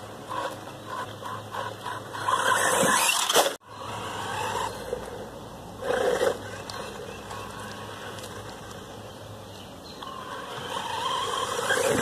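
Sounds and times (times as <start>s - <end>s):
whirring and scraping: 0.0s - 9.1s, 10.0s - 12.0s
rc truck driving over dirt: 0.0s - 12.0s.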